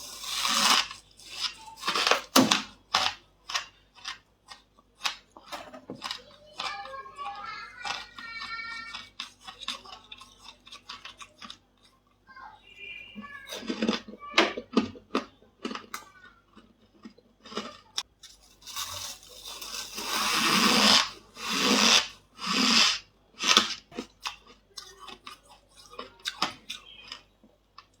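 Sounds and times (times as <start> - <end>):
ice being chewed crunching: 0.0 - 12.1, 13.3 - 28.0.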